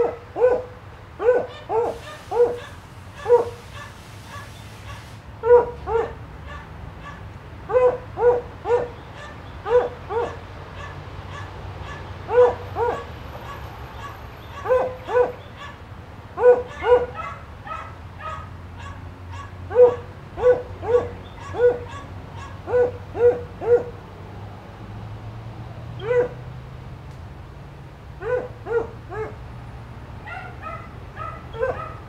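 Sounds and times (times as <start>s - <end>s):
dog barking: 0.0s - 15.8s, 16.4s - 24.0s, 26.0s - 26.4s, 28.2s - 29.4s, 30.2s - 32.0s.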